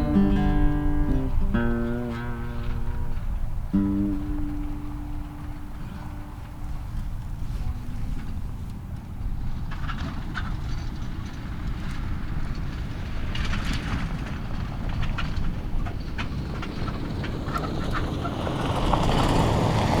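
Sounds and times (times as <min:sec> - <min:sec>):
vehicle rumbling: 0:00.0 - 0:20.0.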